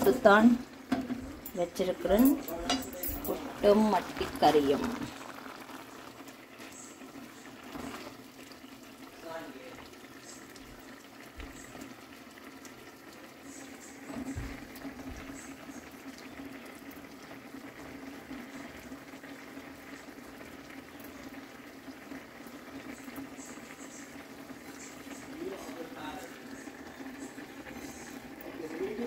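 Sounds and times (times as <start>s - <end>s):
pot boiling with bubbling hiss: 0.0s - 29.0s.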